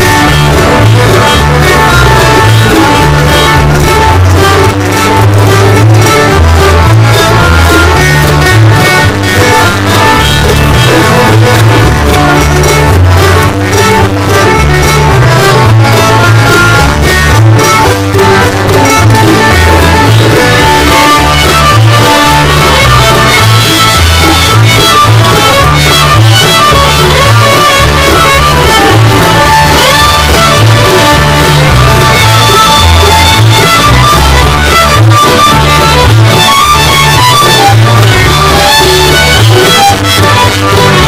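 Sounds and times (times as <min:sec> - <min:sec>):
music with repeating bass line: 0:00.0 - 0:41.0.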